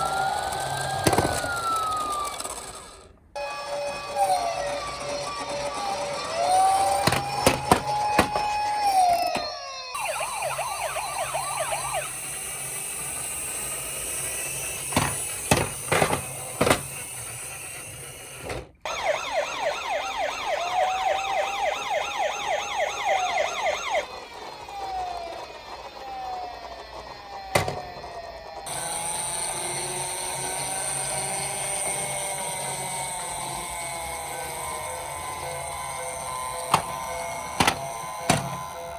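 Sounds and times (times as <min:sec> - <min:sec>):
toy police siren wailing and yelping: 0:00.0 - 0:38.9.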